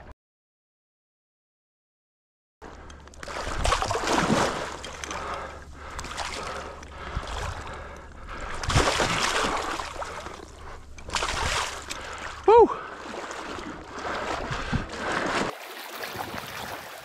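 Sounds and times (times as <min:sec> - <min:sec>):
water splashing and sloshing: 0:02.7 - 0:17.0.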